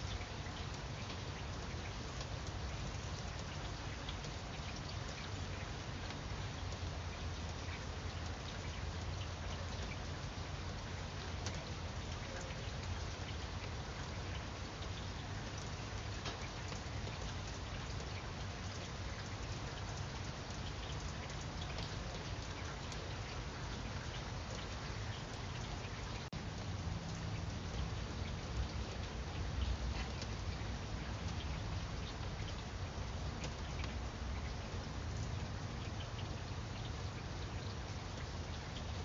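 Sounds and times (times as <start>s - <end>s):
rain falling on leaves: 0.0s - 39.0s.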